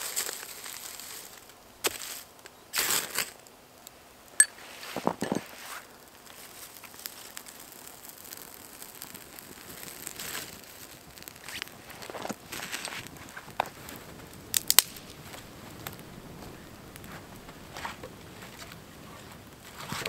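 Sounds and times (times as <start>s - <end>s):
dry twigs rustling: 0.0s - 3.4s, 4.5s - 20.0s
fire crackling and snapping: 0.0s - 20.0s.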